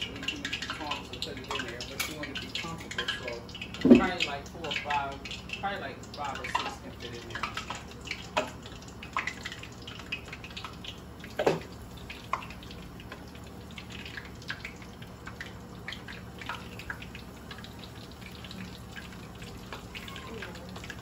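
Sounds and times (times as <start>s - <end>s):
chicken frying in oil: 0.0s - 21.0s.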